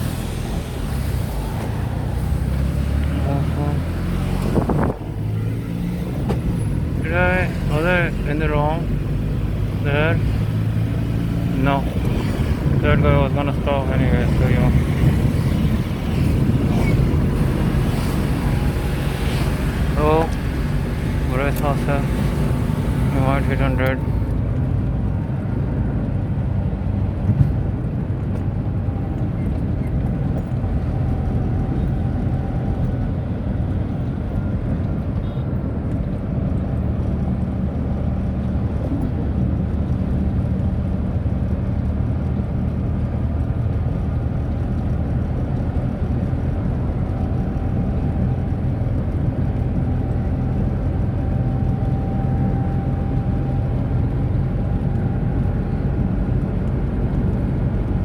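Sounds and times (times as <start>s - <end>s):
car engine drone inside cabin: 0.0s - 58.0s
tyre and road noise: 0.0s - 58.0s.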